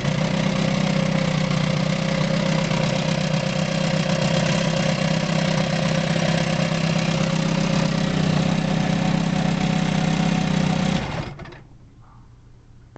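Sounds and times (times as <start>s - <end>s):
outboard motor running: 0.0s - 11.5s.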